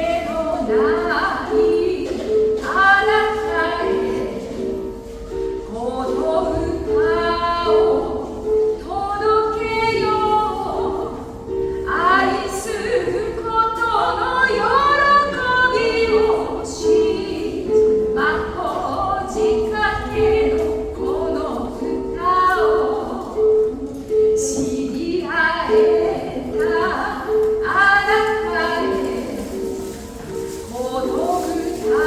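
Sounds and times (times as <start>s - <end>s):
instrumental accompaniment: 0.0s - 32.0s
person singing: 0.0s - 32.0s.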